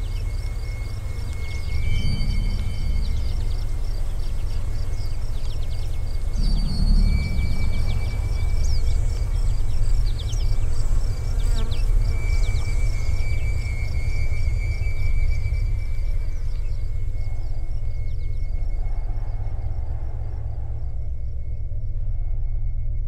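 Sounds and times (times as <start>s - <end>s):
insects chirping: 0.0s - 23.0s
low rumble: 0.0s - 23.0s
thin steady insect whine: 0.0s - 23.0s.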